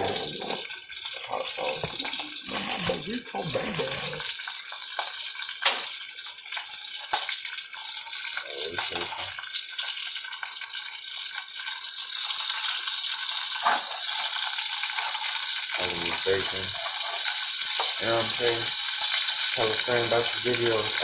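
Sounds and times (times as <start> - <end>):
bacon sizzling in pan: 0.0 - 21.0.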